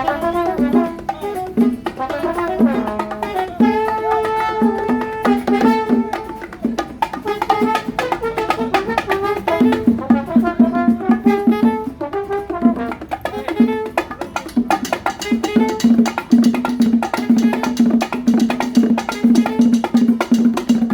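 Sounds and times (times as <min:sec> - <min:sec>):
brass section playing: 0:00.0 - 0:20.9
hand percussion: 0:00.0 - 0:20.9.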